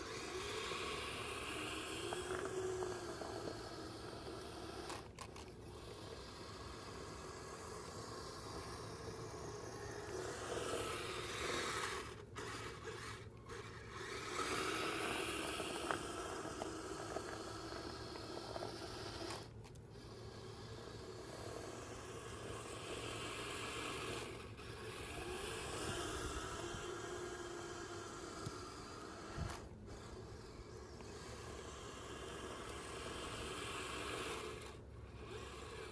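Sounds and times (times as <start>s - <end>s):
toy vehicle tracks scraping snow: 0.0s - 35.9s.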